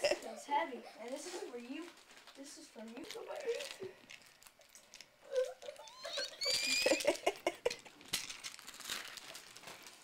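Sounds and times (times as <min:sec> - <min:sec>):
gift wrapping rustling: 0:00.0 - 0:10.0.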